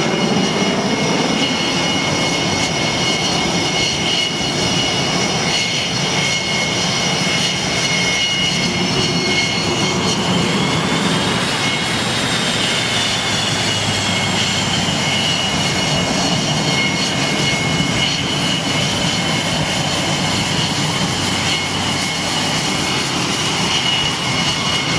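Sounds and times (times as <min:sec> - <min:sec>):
jet engines whining: 0:00.0 - 0:24.9.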